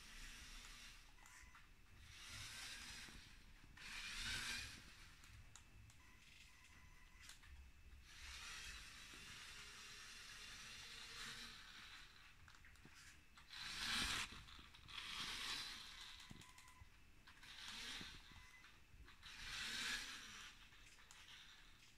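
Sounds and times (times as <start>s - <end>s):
electric motor whir: 0.0s - 7.4s, 8.0s - 21.9s.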